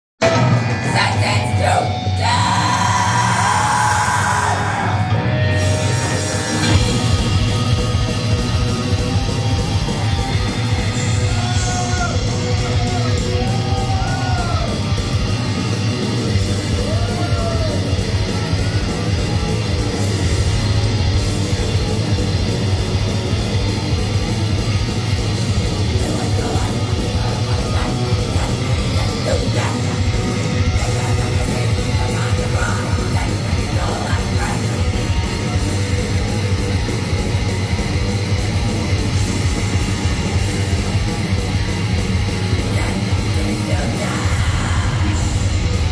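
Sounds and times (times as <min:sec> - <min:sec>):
live heavy metal music: 0:00.2 - 0:45.9.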